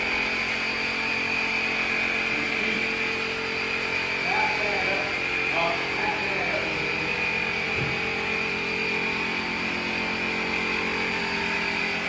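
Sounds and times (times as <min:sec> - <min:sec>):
mechanical drone with whine: 0:00.0 - 0:12.0.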